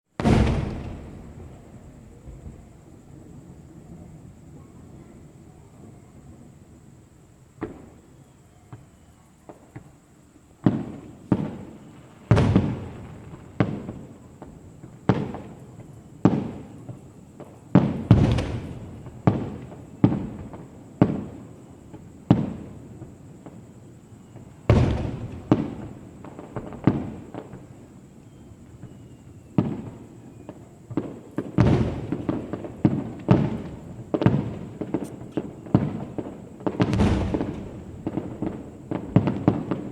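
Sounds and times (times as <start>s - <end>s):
small firework pops: 0.2s - 2.8s, 7.5s - 39.9s.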